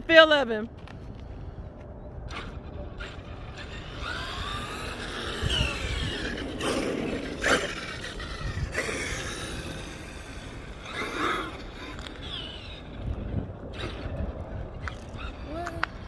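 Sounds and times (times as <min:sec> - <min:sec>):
low rumble: 0:00.0 - 0:16.0
toy truck electric motor whining: 0:02.3 - 0:16.0.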